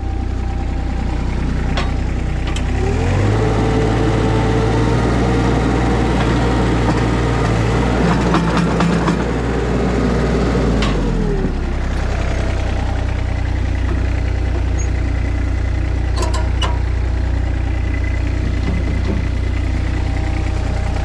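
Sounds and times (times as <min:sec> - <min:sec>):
skid steer engine revving: 0:00.0 - 0:21.0.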